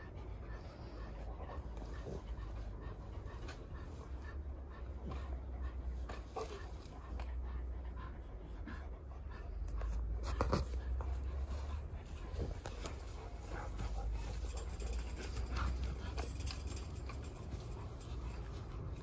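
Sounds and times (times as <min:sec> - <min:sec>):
large dog panting: 0:00.0 - 0:19.0.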